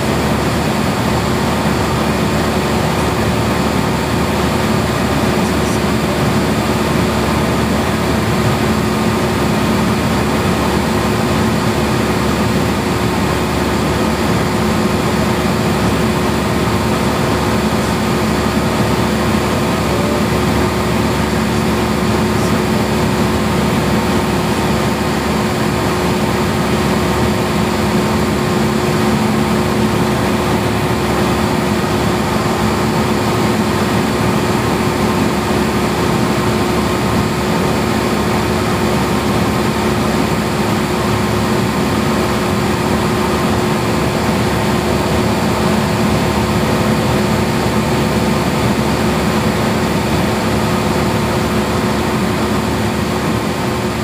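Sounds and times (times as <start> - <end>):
propeller aircraft engine drone: 0.0 - 54.0.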